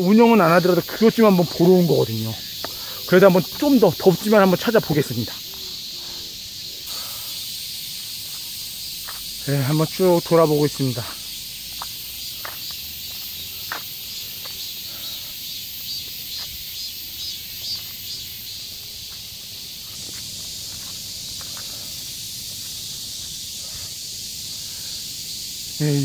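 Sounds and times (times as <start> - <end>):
footsteps on paved path: 0.0 - 25.8
high-pitched insect chorus: 0.0 - 26.0.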